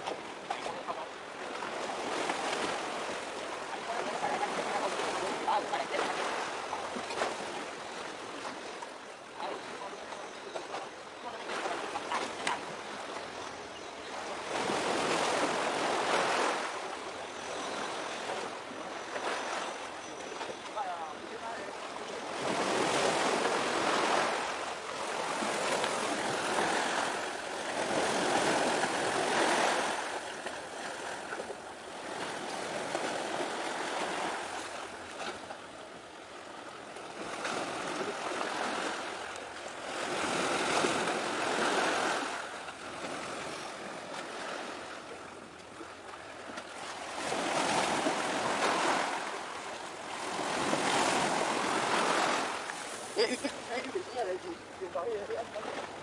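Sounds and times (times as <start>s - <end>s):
sea surf washing on shore: 0.0s - 56.0s.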